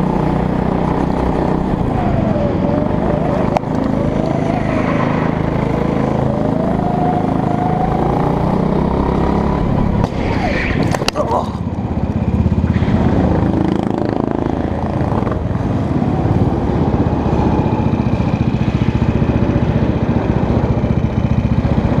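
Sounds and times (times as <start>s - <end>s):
go-kart engine running: 0.0s - 22.0s.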